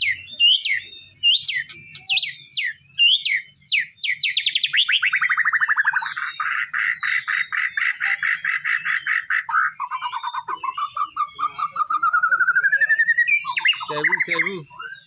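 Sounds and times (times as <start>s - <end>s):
bird singing fast repeated notes: 0.0s - 15.0s.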